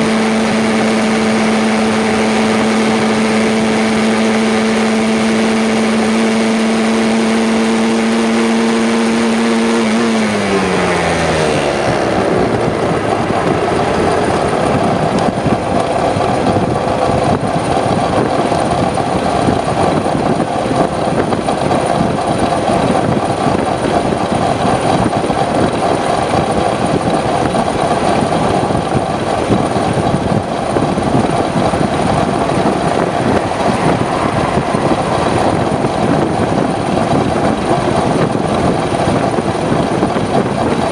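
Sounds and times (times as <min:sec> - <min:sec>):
steady rushing noise: 0:00.0 - 0:40.9
two-stroke engine: 0:00.0 - 0:40.9.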